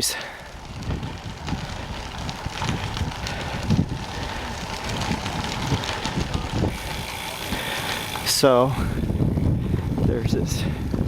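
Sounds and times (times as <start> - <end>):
bicycle tyres on gravel: 0.0 - 11.0
wind buffeting microphone: 0.4 - 11.0.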